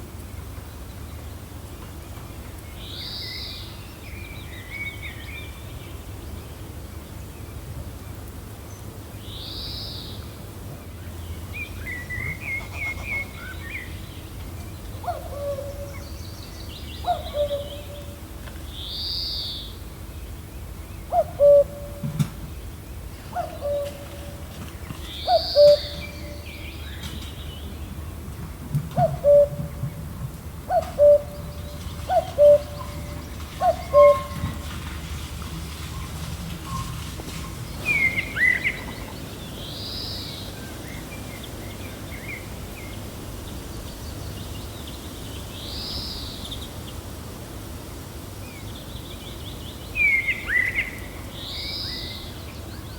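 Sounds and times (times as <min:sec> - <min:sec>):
low wind: 0:00.0 - 0:52.9.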